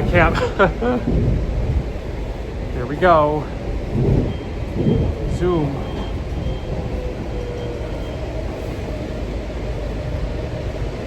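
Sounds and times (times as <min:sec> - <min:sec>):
train rumble and hiss: 0:00.0 - 0:11.0.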